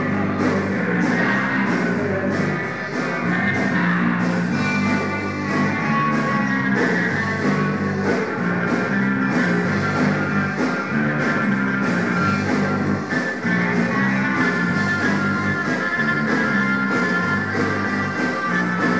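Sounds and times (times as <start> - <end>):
rock band playing live: 0.0 - 18.9.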